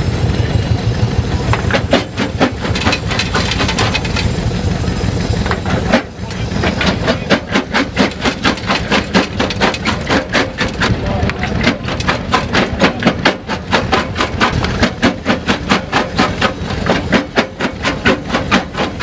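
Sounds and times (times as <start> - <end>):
crusher low rumble: 0.0 - 19.0.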